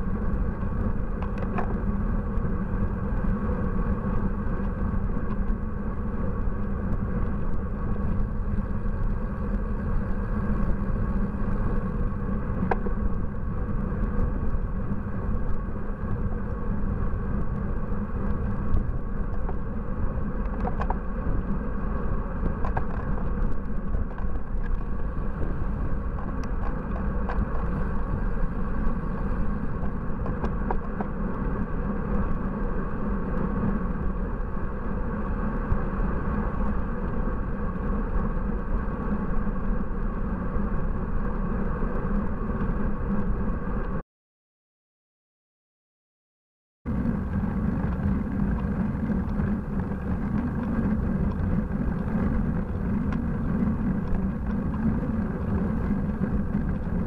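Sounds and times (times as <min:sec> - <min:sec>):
road and wind noise: 0:00.0 - 0:44.0, 0:46.9 - 0:57.0.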